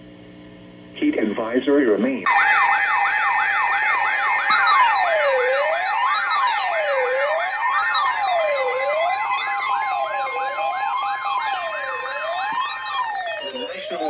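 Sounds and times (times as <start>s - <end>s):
fast warbling siren sweep: 2.3s - 14.0s
slow wailing siren: 2.3s - 14.0s
steady alert tones: 2.3s - 14.0s.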